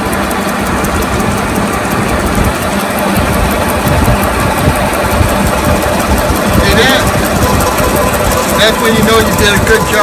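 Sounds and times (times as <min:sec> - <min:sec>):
faint even ticking: 0:00.0 - 0:10.0
metal lathe running: 0:00.0 - 0:10.0.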